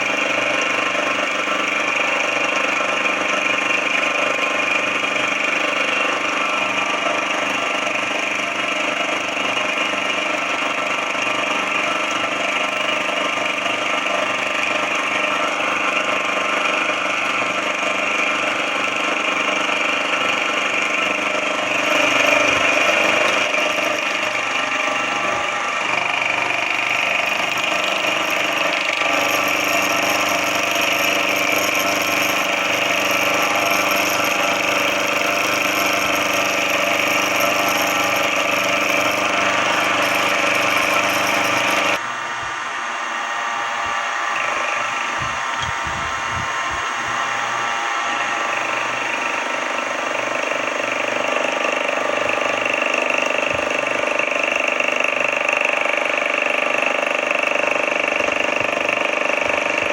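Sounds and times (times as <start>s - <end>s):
machine tool motor whine: 0.0s - 59.9s.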